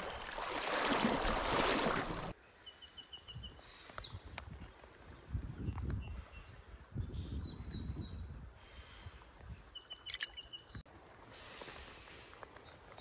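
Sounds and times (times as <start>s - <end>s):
small birds chirping: 2.4s - 13.0s.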